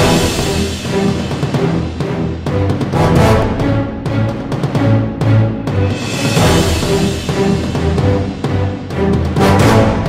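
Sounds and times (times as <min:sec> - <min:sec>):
intro theme music: 0:00.0 - 0:10.0.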